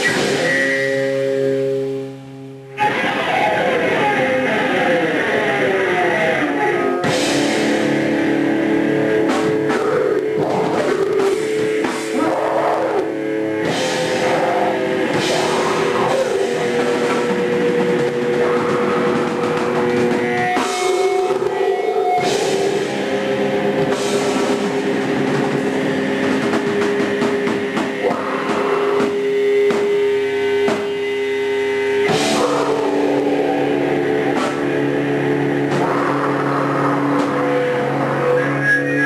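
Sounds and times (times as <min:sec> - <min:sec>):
distorted electric guitar: 0:00.0 - 0:39.0
drums: 0:00.0 - 0:39.0.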